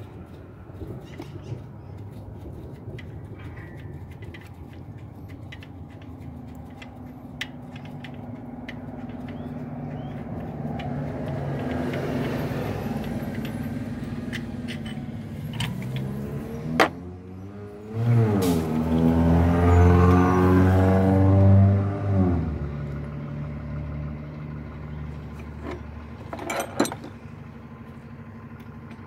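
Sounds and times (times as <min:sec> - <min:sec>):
vehicle engine drone: 0:00.0 - 0:29.0.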